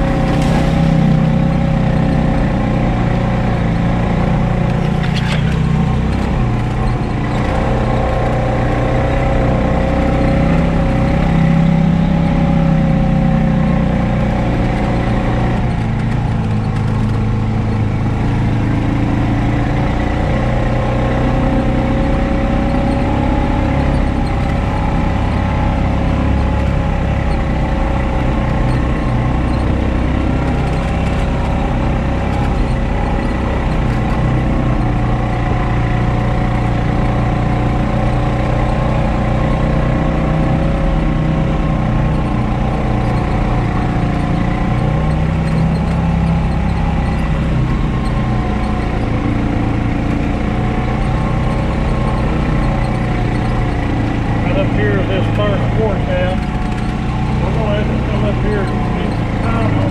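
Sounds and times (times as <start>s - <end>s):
single-cylinder engine running: 0.0s - 59.9s.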